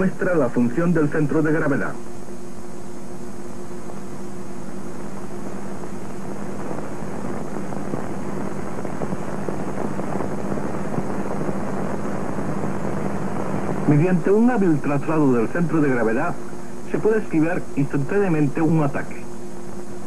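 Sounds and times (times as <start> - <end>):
faint crackle: 0.0 - 20.0
film soundtrack hum and hiss: 0.0 - 20.0.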